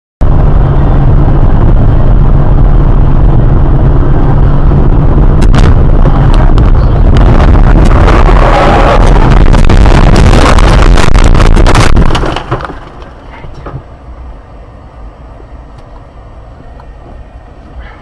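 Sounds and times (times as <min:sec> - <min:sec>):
vehicle rumble: 0:00.2 - 0:18.0.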